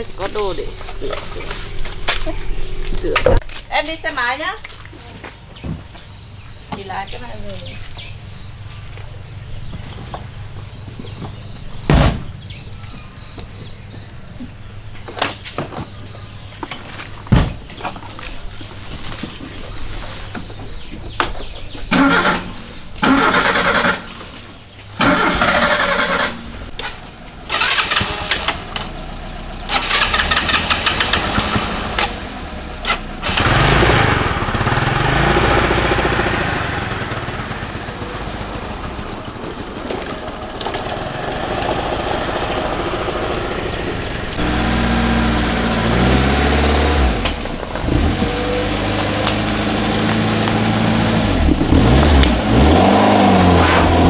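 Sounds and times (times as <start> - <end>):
car engine running and revving: 0.0 - 3.5, 5.5 - 15.2, 20.6 - 54.0
car engine cranking: 0.0 - 54.0.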